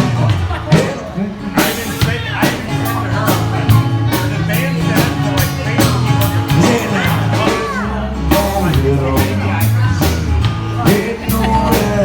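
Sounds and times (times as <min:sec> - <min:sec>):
rock song with vocals: 0:00.0 - 0:12.0.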